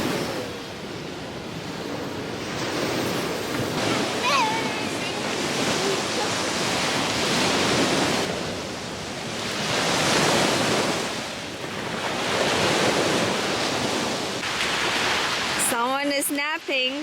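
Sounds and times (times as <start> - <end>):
waves washing onto beach: 0.0 - 17.0
wind blowing on microphone: 0.0 - 17.0.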